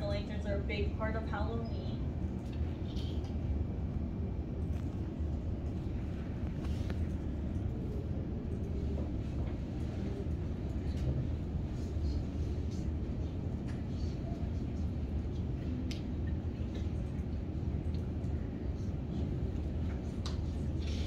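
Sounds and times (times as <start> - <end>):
low room rumble: 0.0 - 21.0.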